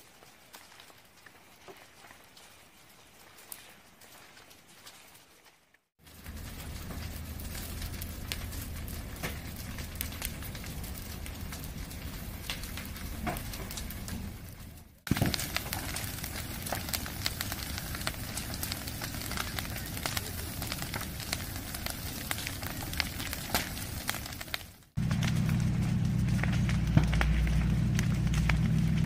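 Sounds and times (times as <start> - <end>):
fire crackling and roaring: 0.0 - 29.0.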